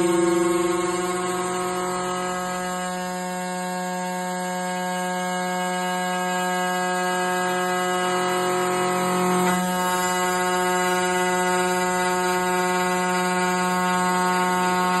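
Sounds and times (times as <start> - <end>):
machine buzzing hum: 0.0 - 15.0.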